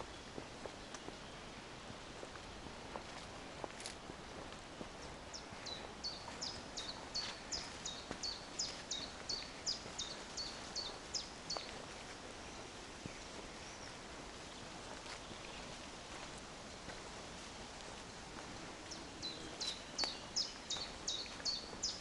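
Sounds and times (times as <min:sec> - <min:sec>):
faint forest background: 0:00.0 - 0:22.0.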